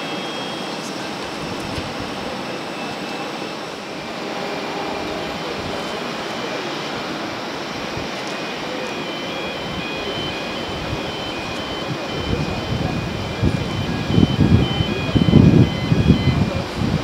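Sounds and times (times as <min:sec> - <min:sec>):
aircraft engines rushing: 0:00.0 - 0:17.0.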